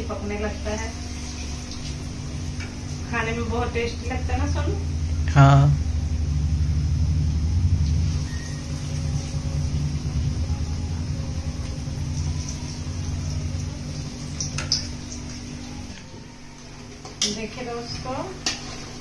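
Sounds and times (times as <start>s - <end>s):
faint oil sizzle: 0.0s - 5.1s, 7.6s - 19.0s
low rumble of frying: 0.0s - 19.0s.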